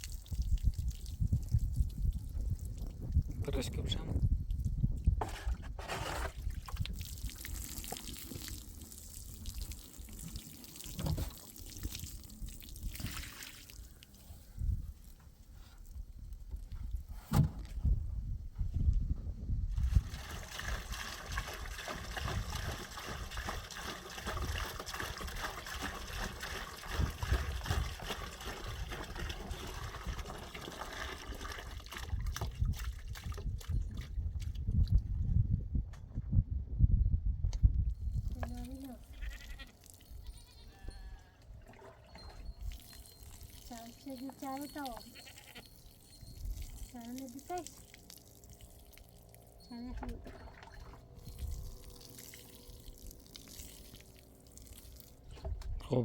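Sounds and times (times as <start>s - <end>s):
water pouring and trickling: 0.0s - 17.0s, 19.7s - 35.2s, 37.9s - 56.0s.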